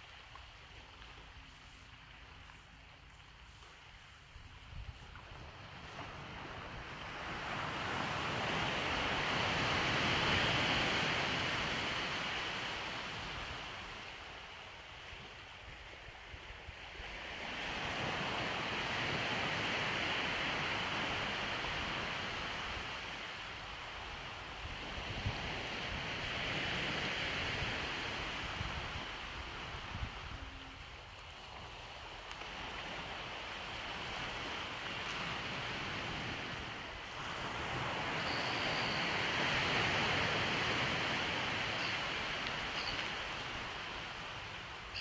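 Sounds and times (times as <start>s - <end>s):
surf washing onto beach: 1.4s - 15.4s, 17.0s - 45.0s.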